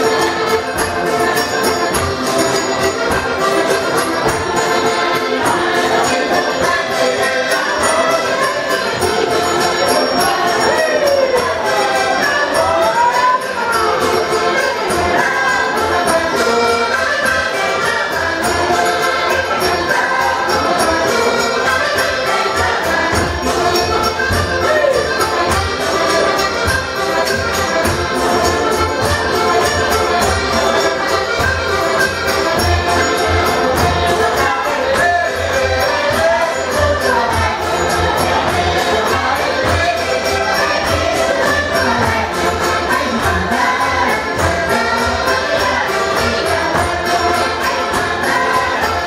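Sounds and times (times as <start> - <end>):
folk band playing: 0.0 - 49.0
people singing: 0.0 - 49.0.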